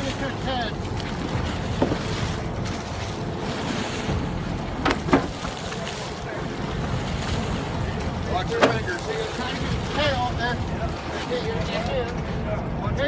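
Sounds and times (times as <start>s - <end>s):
water splashing: 0.0s - 12.5s
low rumble: 0.0s - 13.0s.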